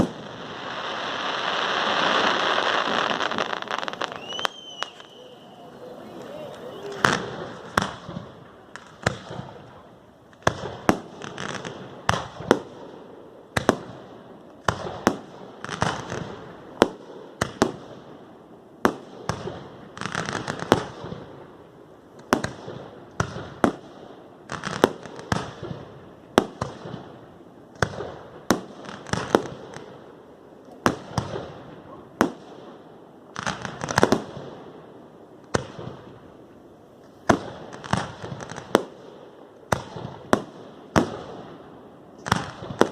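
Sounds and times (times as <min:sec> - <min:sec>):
firework crackling trails: 0:00.0 - 0:42.9.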